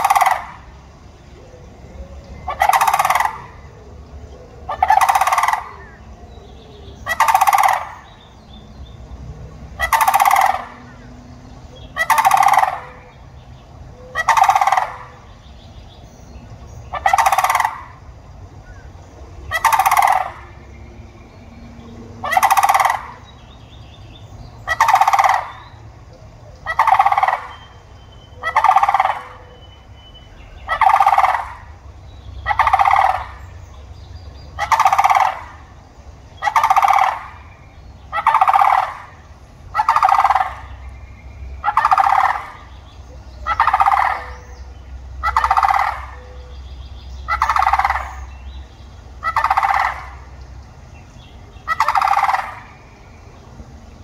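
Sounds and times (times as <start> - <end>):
crane rattling call: 0.0 - 16.0, 16.6 - 54.0.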